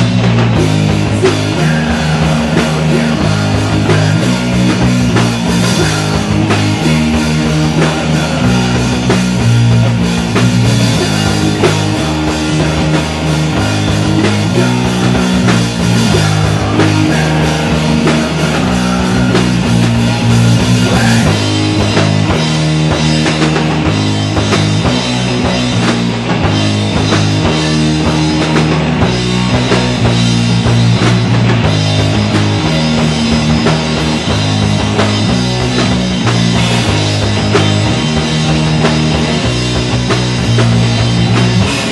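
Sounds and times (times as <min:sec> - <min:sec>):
bass guitar: 0:00.0 - 0:41.9
drum kit: 0:00.0 - 0:41.9
electric guitar: 0:00.0 - 0:41.9.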